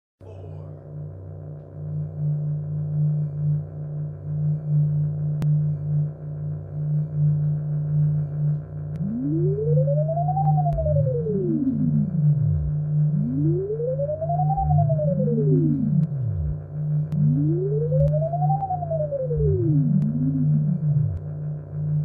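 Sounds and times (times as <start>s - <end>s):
pulsing low electronic drone: 0.2s - 22.0s
sweeping pure tones: 0.2s - 22.0s.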